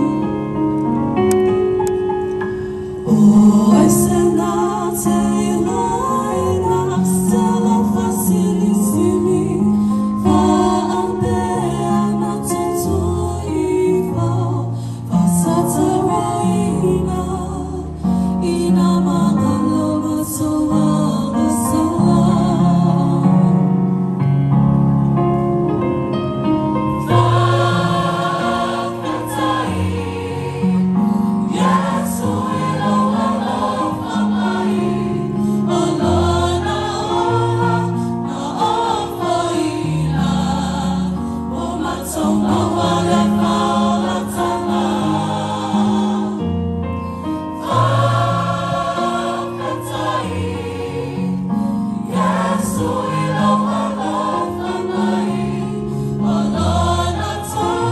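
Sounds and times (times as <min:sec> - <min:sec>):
choir singing in harmony: 0:00.0 - 0:00.8, 0:02.5 - 0:24.1, 0:26.9 - 0:57.9.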